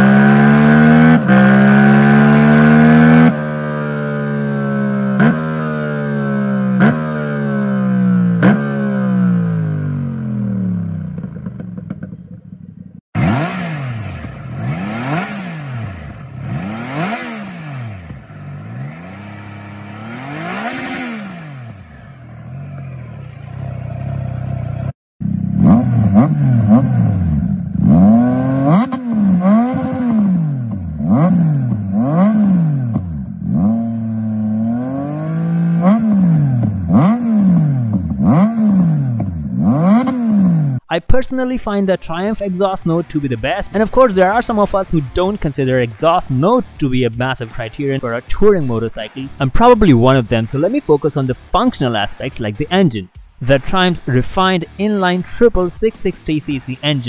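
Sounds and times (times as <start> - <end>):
motorcycle engine revving: 0.0 - 40.9, 42.6 - 57.0.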